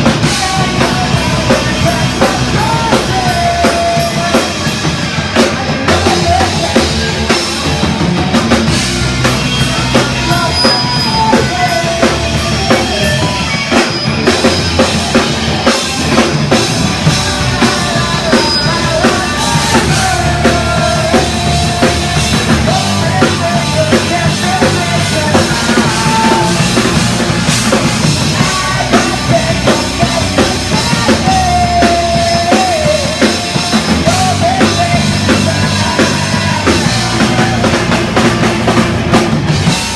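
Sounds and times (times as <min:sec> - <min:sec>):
rock drum beat: 0:00.0 - 0:39.9.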